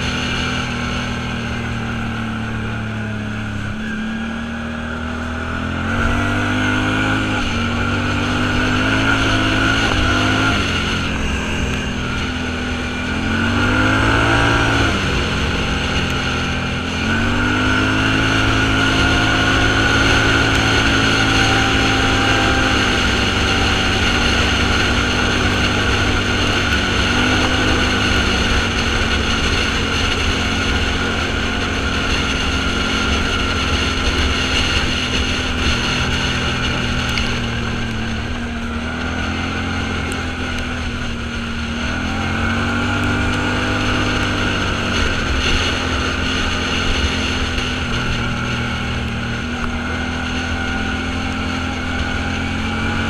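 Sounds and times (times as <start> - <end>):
road noise: 0.0 - 53.0
vehicle engine running: 0.0 - 53.0
wind noise: 0.0 - 53.0.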